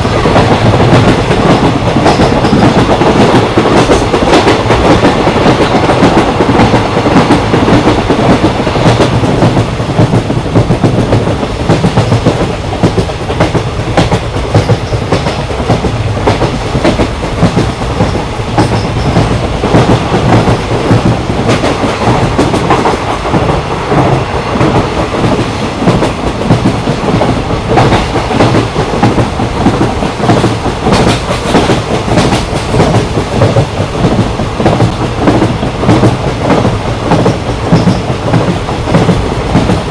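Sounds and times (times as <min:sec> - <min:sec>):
clickety-clack of train wheels: 0:00.0 - 0:39.9
low rumble of railcars: 0:00.0 - 0:39.9.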